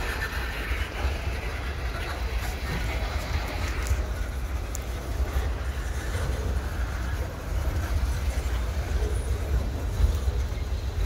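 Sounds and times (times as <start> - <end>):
freight cars rolling on rails: 0.0 - 11.0.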